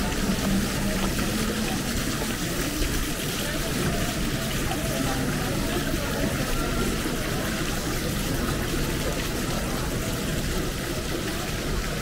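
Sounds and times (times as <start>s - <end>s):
town ambience: 0.0s - 12.0s.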